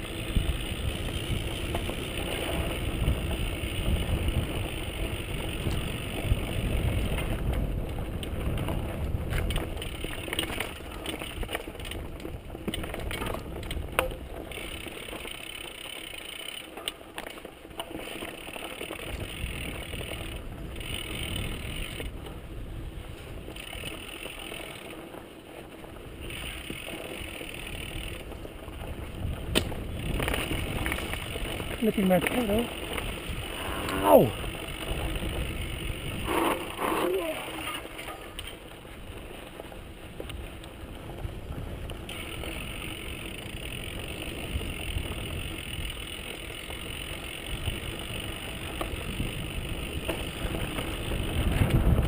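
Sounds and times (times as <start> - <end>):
bike freewheel ratchet buzzing: 0.0 - 25.2, 26.0 - 52.0
bike knocking and rattling: 0.0 - 52.0
tyre and wind rumble: 0.0 - 52.0.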